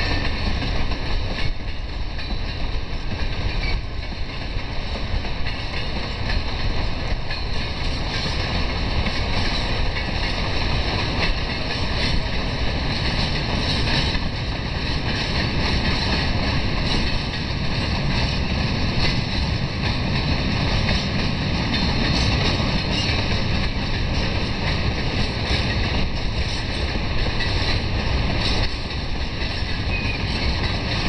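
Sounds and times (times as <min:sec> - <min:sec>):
freight train rolling on rails: 0:00.0 - 0:31.0
wind buffeting microphone: 0:00.0 - 0:31.0.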